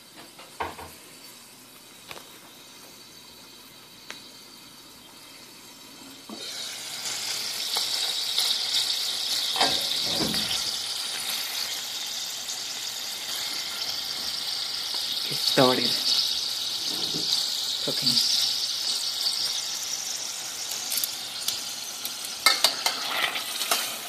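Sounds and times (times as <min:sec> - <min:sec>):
chicken sizzling in a pan: 0:00.0 - 0:24.0.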